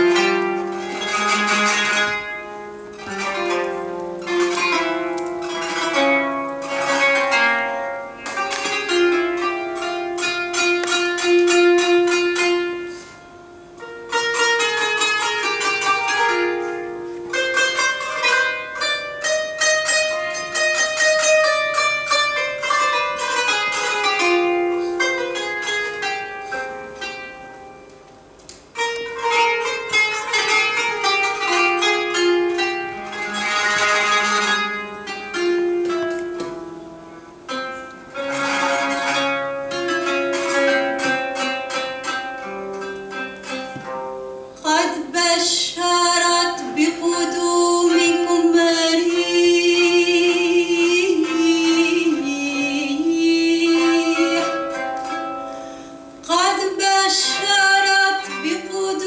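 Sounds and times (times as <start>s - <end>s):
plucked zither melody: 0.0s - 59.0s.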